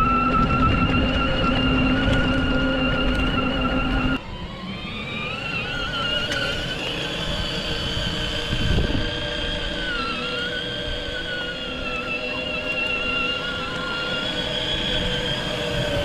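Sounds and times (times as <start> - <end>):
toy car electric motors whining: 0.0 - 16.0.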